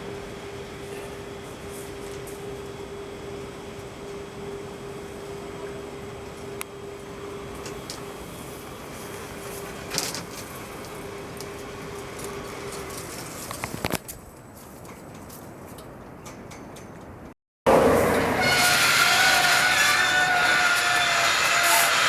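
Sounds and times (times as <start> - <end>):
electric lift drive humming: 0.0 - 13.5, 17.7 - 22.0.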